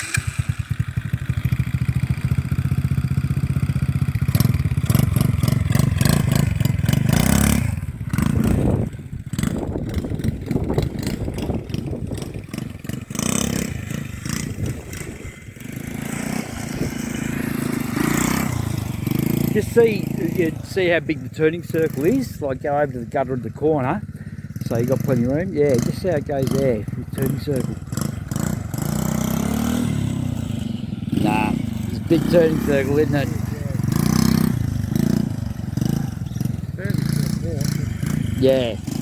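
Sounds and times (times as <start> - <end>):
small two-stroke engine revving: 0.0 - 39.0.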